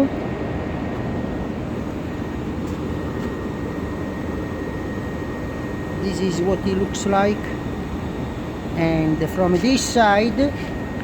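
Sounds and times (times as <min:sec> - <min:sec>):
faint high whine: 0:00.0 - 0:11.0
low machinery drone: 0:00.0 - 0:11.0.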